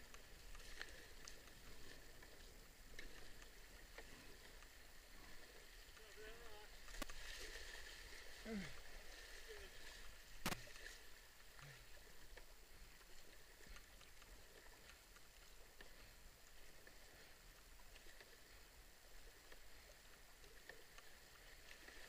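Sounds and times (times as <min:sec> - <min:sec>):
small ticks: 0:00.0 - 0:08.2, 0:10.0 - 0:22.0.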